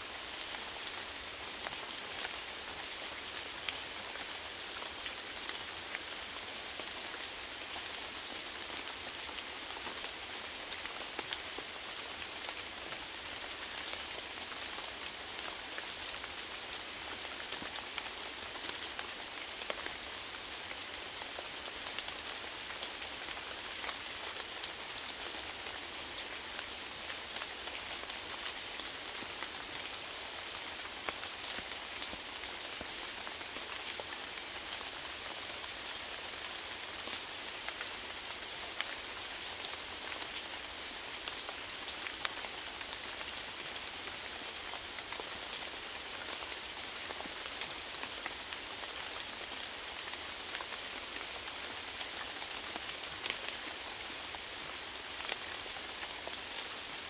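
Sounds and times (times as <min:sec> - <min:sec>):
rain drops pattering on a surface: 0:00.0 - 0:57.0.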